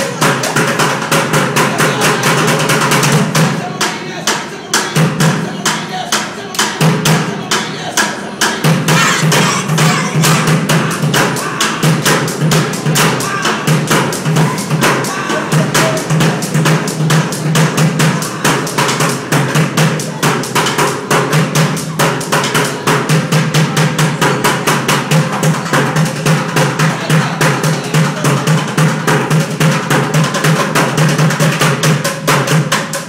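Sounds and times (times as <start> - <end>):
drumming on plastic buckets: 0.0 - 33.0.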